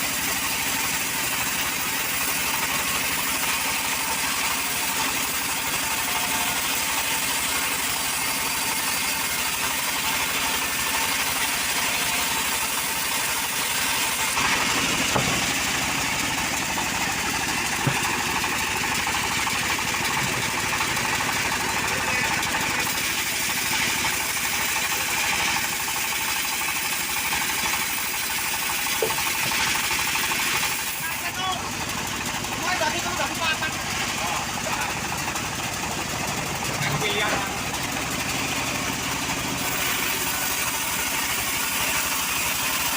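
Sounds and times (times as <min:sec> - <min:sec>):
power saw running: 0:00.0 - 0:42.9.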